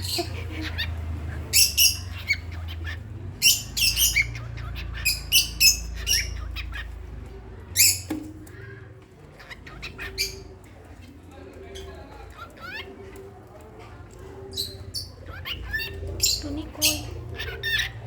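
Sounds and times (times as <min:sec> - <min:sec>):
pet bird chirping and squawking: 0:00.0 - 0:07.2, 0:07.8 - 0:11.1, 0:12.3 - 0:13.3, 0:14.5 - 0:18.0.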